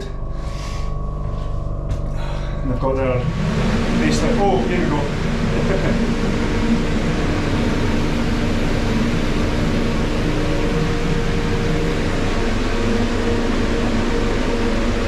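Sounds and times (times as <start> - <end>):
refrigeration fans rushing air: 0.0 - 15.0.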